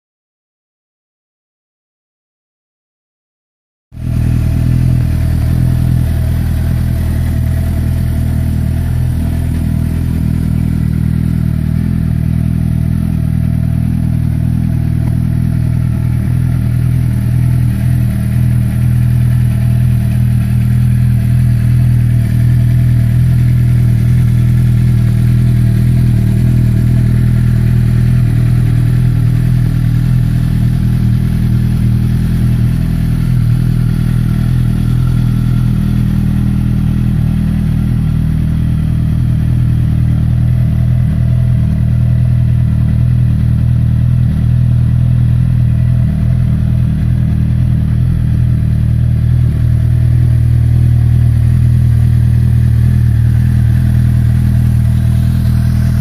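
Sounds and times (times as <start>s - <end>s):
motorcycle engine idling: 4.0s - 56.0s.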